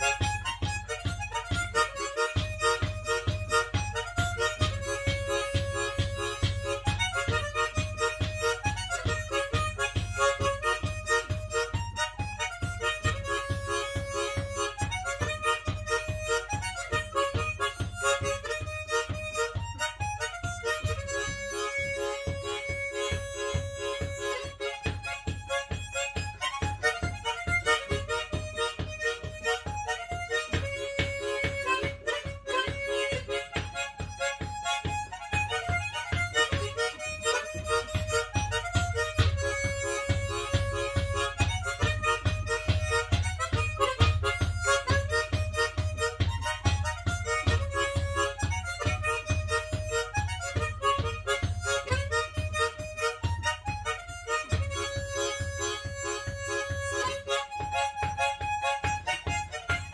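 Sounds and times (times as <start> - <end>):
solo harmonica melody: 0.0 - 59.9.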